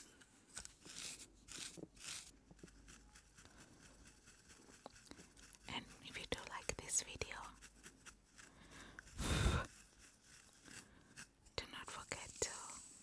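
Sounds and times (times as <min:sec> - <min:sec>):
comb scratching through hair: 0:00.0 - 0:13.0.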